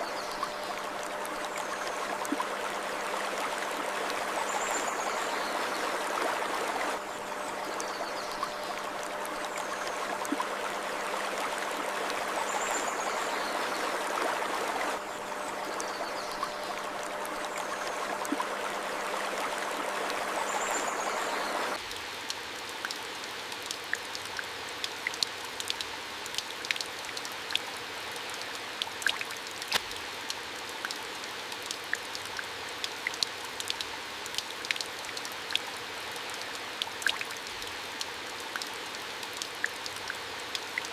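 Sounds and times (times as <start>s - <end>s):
stream water running: 0.0s - 40.9s
water dripping: 0.0s - 40.9s.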